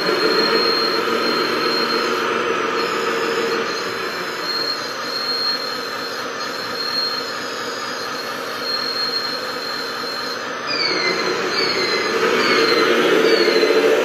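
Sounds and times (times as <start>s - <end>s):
electric motor whining: 0.0s - 14.0s
thin high squeal: 0.0s - 14.0s.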